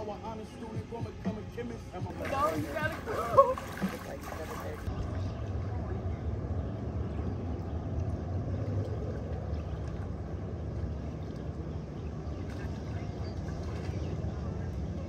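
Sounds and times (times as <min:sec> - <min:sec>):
low rumbling noise: 0:02.0 - 0:15.0.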